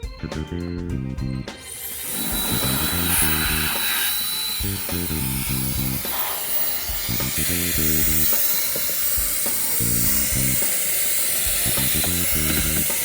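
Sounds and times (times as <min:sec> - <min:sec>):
background music: 0:00.0 - 0:13.0
jet fan blower whining: 0:00.0 - 0:13.0.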